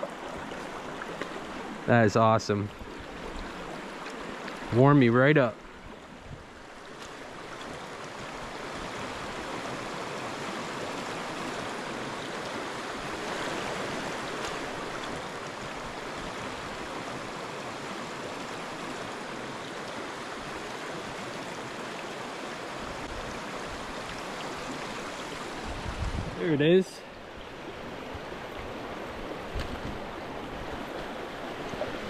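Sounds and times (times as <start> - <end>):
stream flowing over rocks: 0.0 - 32.0.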